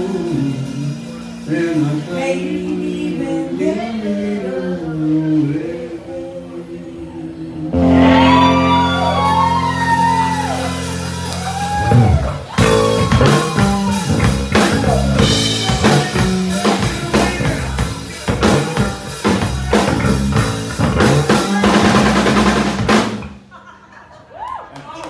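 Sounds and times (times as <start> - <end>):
live country band playing: 0.0 - 6.6, 7.4 - 23.5
person singing: 0.0 - 10.4, 12.6 - 22.9.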